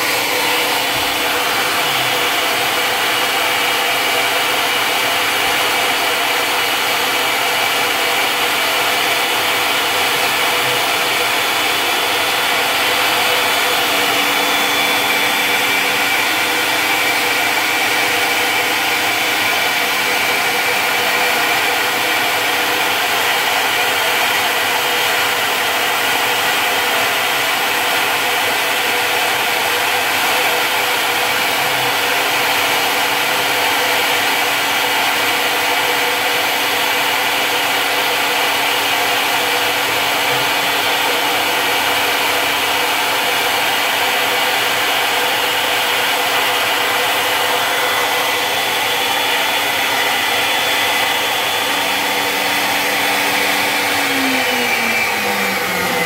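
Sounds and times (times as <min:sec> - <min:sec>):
spindle whine: 0:00.0 - 0:34.9, 0:38.8 - 0:56.0.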